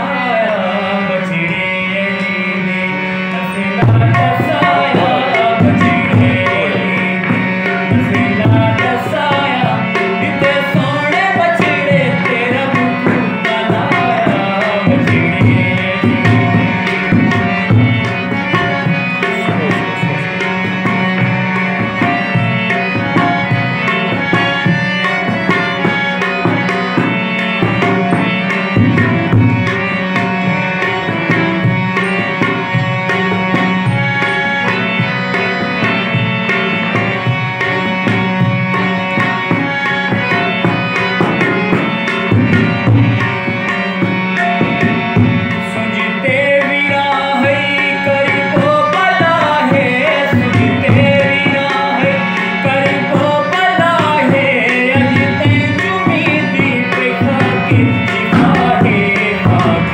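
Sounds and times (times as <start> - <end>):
harmonium melody: 0.0 - 59.9
man singing: 0.0 - 59.9
drum beating: 3.4 - 59.9.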